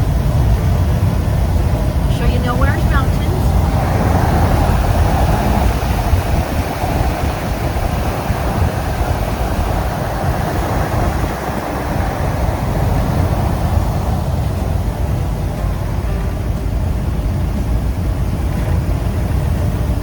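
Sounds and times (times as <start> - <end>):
truck engine and road rumble: 0.0 - 20.0.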